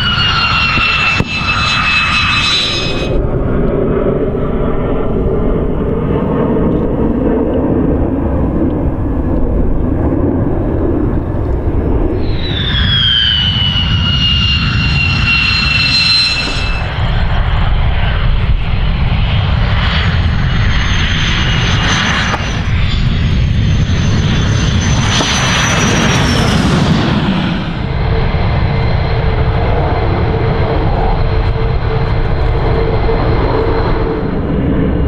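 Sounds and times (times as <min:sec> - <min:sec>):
high turbine whine: 0:00.0 - 0:35.0
jet engine roar: 0:00.0 - 0:35.0.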